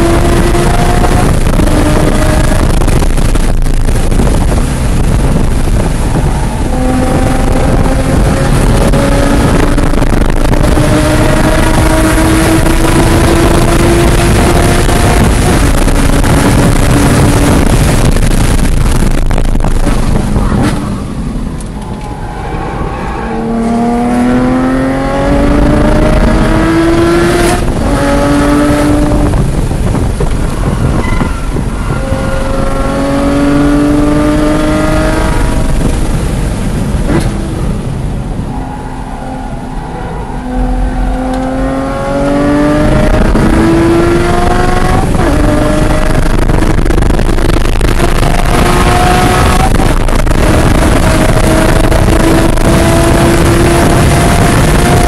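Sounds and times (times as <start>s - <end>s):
sports car engine revving: 0.0s - 31.0s, 31.6s - 55.0s
wind and road noise: 0.0s - 55.0s.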